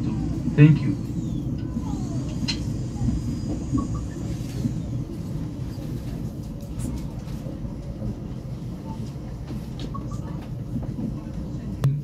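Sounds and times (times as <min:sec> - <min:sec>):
train coach rumble: 0:00.0 - 0:12.0.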